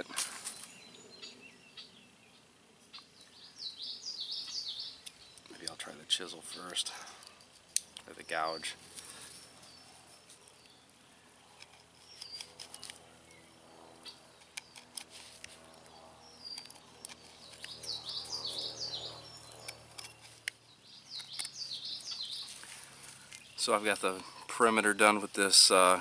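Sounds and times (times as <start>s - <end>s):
songbird chirping: 0.0s - 25.5s.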